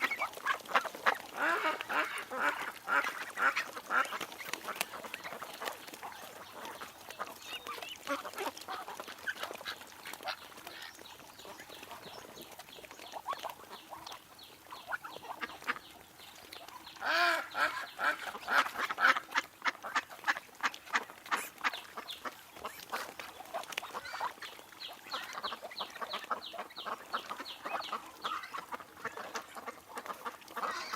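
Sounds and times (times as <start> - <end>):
ducks quacking: 0.0 - 30.9.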